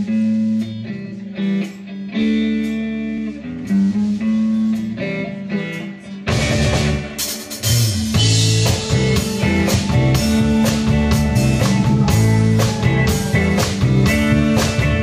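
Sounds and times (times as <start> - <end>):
bass line: 0.0 - 15.0
drums and full band: 0.0 - 15.0
electric guitar riff: 0.0 - 15.0.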